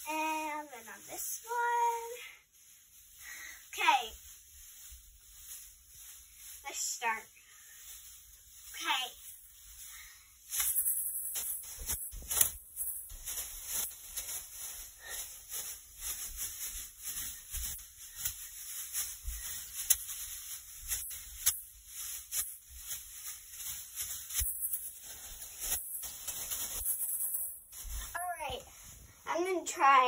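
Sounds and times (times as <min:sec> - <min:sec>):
pom-poms rustling: 0:00.0 - 0:30.0.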